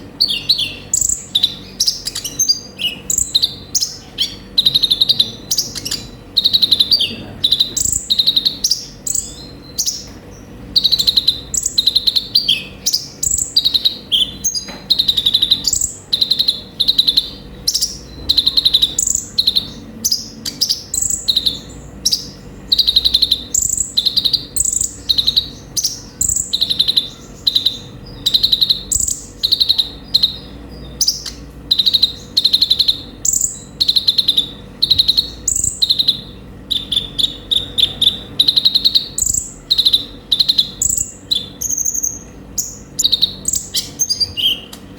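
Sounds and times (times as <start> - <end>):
sunbird trilled chirping: 0.0 - 44.9.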